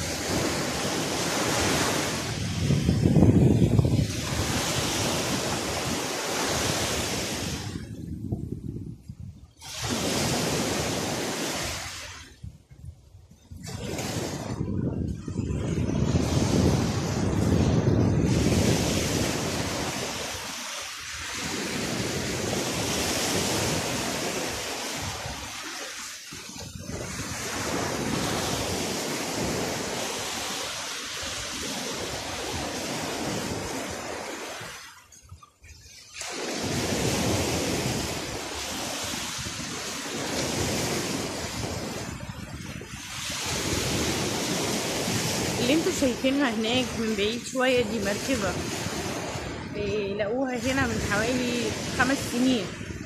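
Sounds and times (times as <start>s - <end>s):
surf washing onto a beach: 0.0s - 53.0s
wind buffeting microphone: 0.0s - 53.0s.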